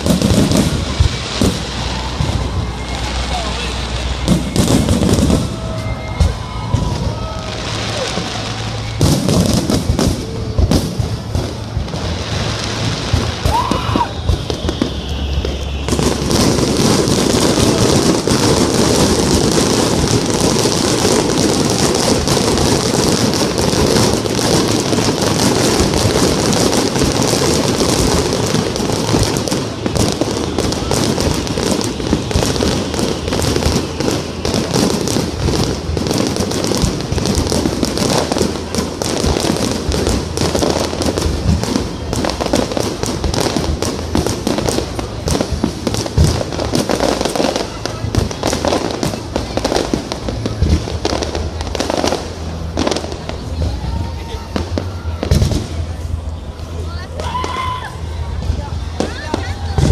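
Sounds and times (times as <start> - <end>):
rising firework whistle: 0.0 - 49.6
firework bangs: 0.0 - 59.9
firework crackling: 0.0 - 59.9.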